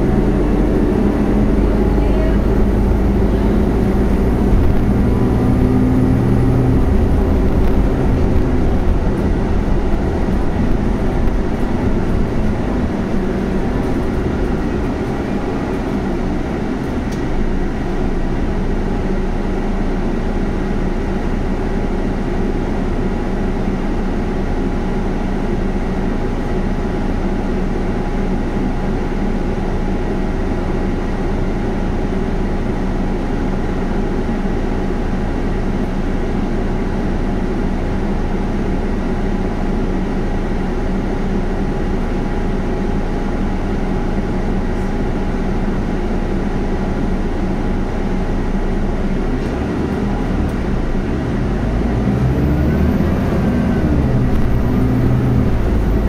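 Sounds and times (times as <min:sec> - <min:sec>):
bus engine running: 0:00.0 - 0:56.0
road noise: 0:00.0 - 0:56.0.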